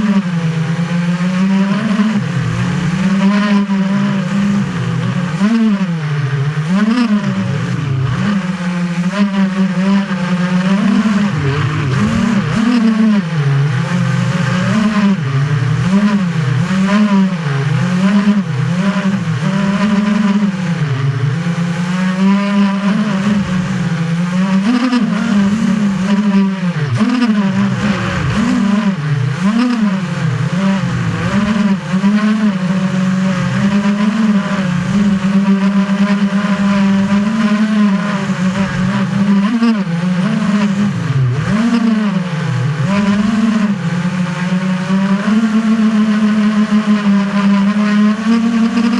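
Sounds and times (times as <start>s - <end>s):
drone motors and propellers whining: 0.0s - 48.9s.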